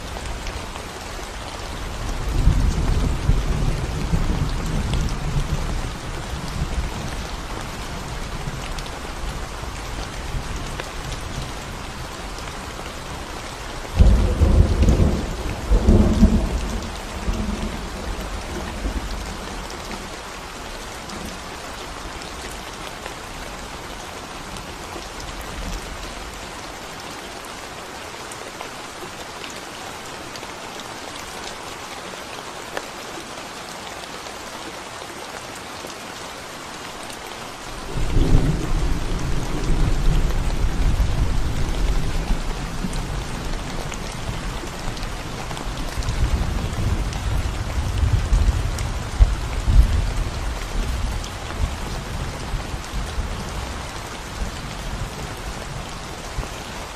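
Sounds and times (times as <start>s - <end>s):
rain hissing on concrete: 0.0s - 56.9s.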